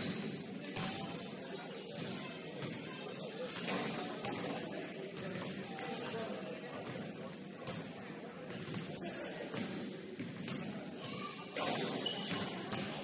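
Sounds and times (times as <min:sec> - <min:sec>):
low murmur in hall: 0:00.0 - 0:13.0.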